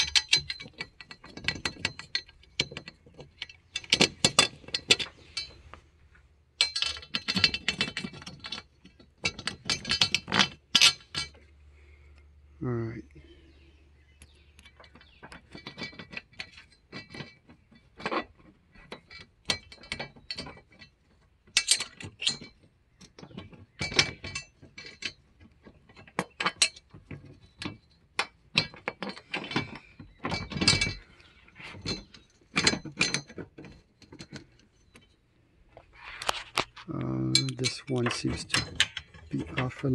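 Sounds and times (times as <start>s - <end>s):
metallic clicks and scrapes of bolts: 0.0s - 11.6s, 14.2s - 39.9s.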